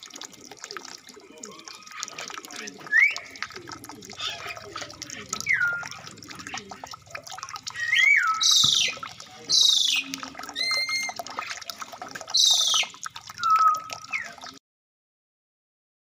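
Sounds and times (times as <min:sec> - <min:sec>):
birds calling: 0:00.4 - 0:14.6.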